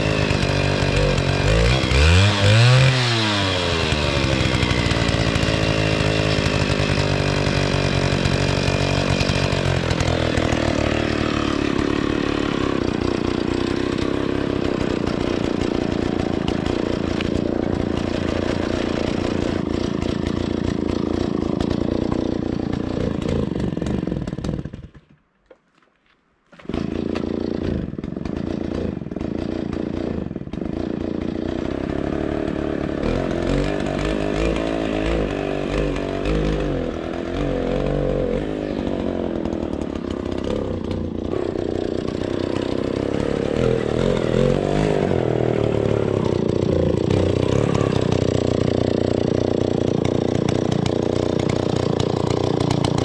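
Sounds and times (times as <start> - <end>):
chainsaw revving cutting log: 0.0 - 25.2, 26.5 - 53.0.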